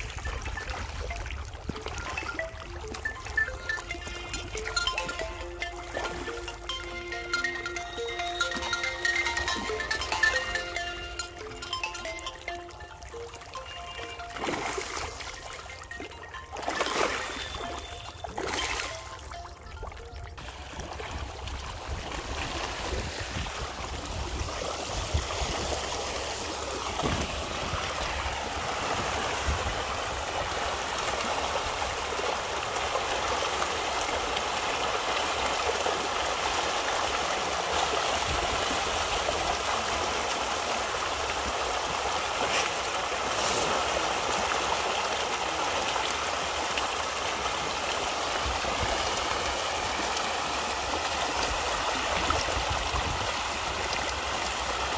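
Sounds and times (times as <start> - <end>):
fish splashing and churning water: 0.0 - 54.9.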